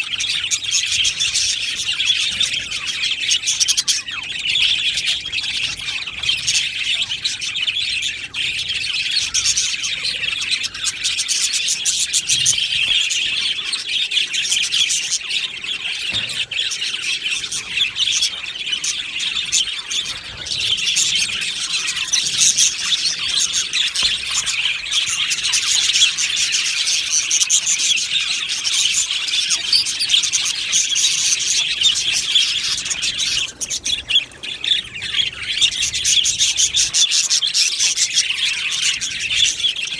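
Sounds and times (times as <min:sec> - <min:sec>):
bird squawks: 0:00.0 - 0:39.9
budgerigars chirping and chattering: 0:00.0 - 0:39.9.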